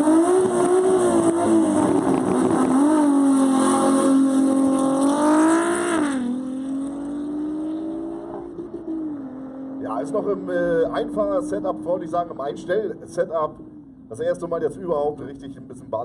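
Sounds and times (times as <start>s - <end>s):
car engine accelerating: 0.0s - 13.8s.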